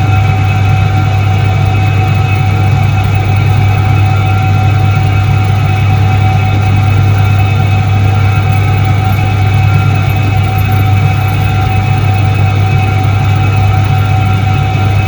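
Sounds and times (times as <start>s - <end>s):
faint whining tones: 0.0s - 15.0s
washing machine motor hum: 0.0s - 15.0s.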